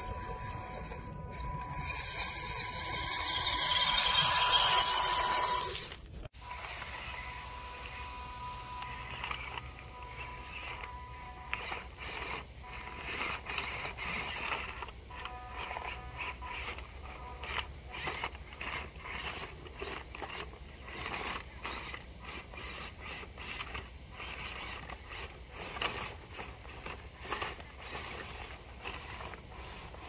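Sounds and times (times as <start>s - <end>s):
small electric motor whirring: 0.0s - 30.0s.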